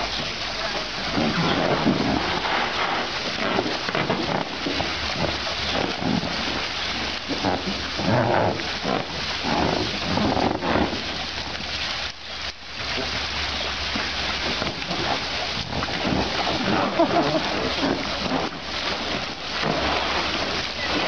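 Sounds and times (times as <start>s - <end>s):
hose water splashing into pool: 0.0s - 21.0s.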